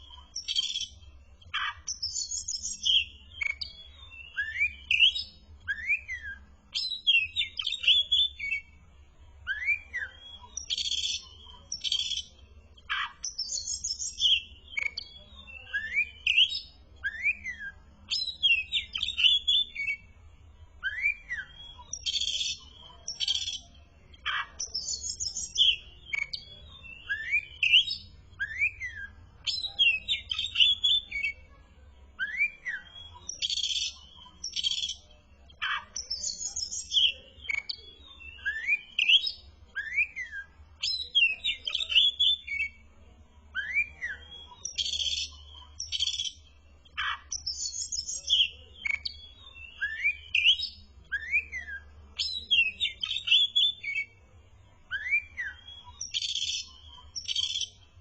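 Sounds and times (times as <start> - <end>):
bird singing whistled phrases: 0.0 - 8.8, 9.4 - 20.1, 20.8 - 31.5, 32.2 - 35.0, 35.6 - 42.8, 43.5 - 46.4, 47.0 - 54.1, 54.9 - 57.8.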